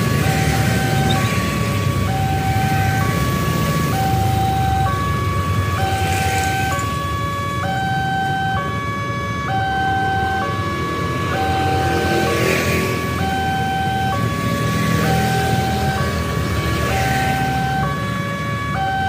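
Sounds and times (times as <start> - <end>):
level crossing alarm tones: 0.0 - 19.0
motorbike traffic rumbling: 0.0 - 19.0.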